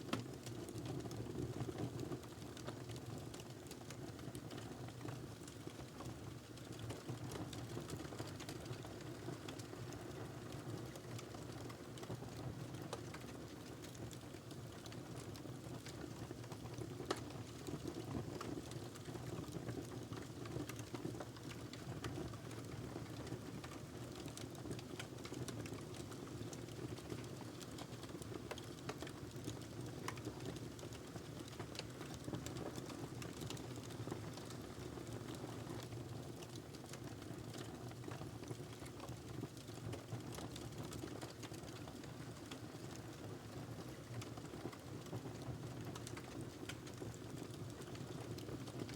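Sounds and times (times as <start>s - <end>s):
fire crackles and pops: 0.1s - 48.9s.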